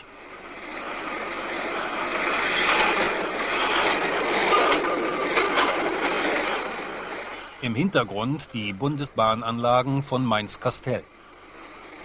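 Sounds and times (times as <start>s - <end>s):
tram rolling rumble: 0.0s - 12.0s.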